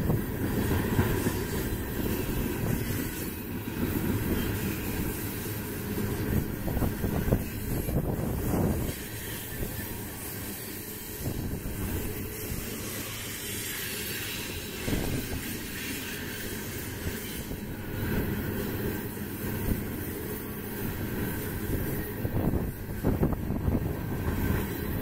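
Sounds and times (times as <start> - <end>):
steel wheels rumbling on rail: 0.0 - 25.0
train cars clanking: 0.0 - 25.0.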